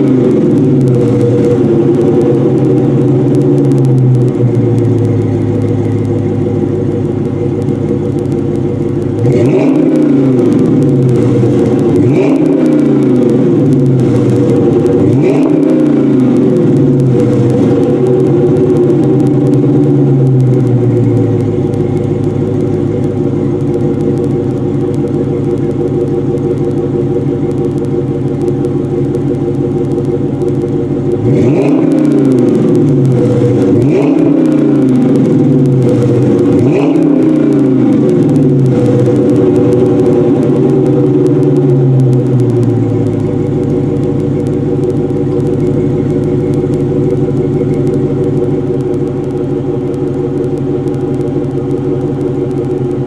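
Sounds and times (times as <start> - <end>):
car engine idling with throttle blips: 0.0 - 53.0.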